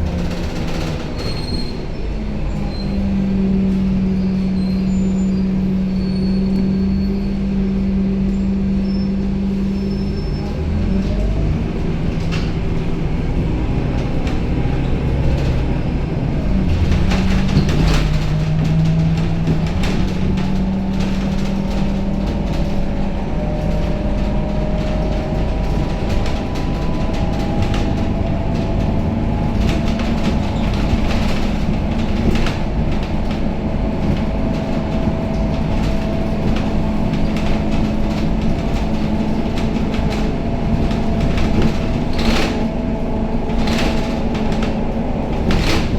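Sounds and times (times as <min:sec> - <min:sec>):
bus engine hum: 0:00.0 - 0:45.9
rattles and knocks from bus body: 0:00.0 - 0:45.9.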